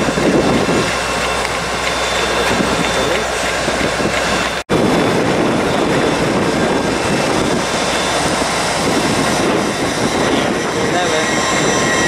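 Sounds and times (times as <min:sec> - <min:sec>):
train running past: 0:00.0 - 0:12.0.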